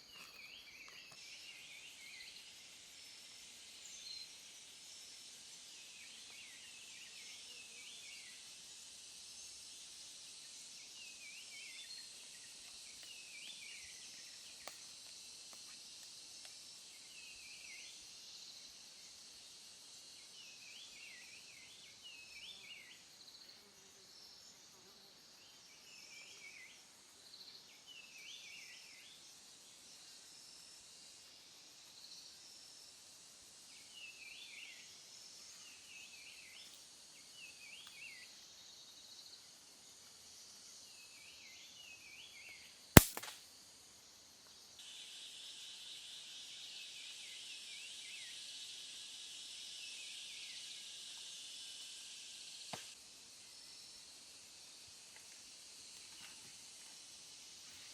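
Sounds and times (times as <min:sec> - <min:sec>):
high insect hum: 0:00.0 - 0:57.9.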